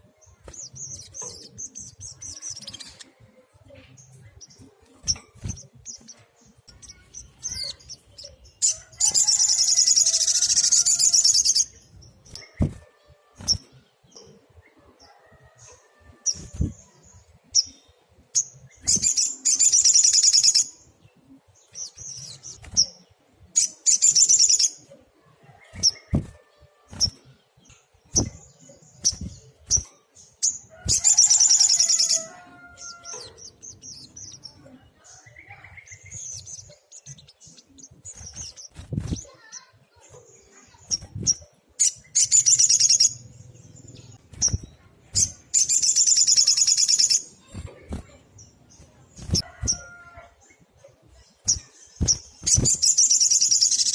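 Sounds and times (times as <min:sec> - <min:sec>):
bird trilling song: 0:03.8 - 0:12.8, 0:15.1 - 0:21.0, 0:21.6 - 0:24.9, 0:25.6 - 0:50.6, 0:51.2 - 0:53.9.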